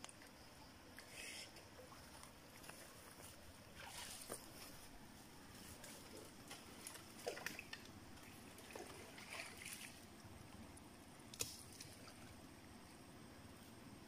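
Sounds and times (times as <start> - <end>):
light ticks and rustles: 0.0 - 12.4
faint background hiss: 0.0 - 14.0.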